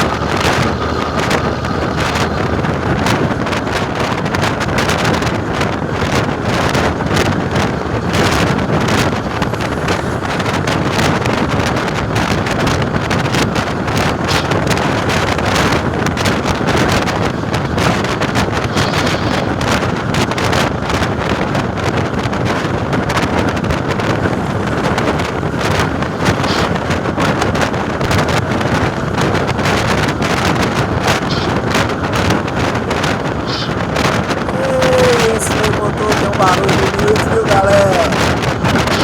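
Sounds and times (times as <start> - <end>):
diesel bus engine rumbling: 0.0 - 39.0
wind buffeting microphone: 0.0 - 39.0.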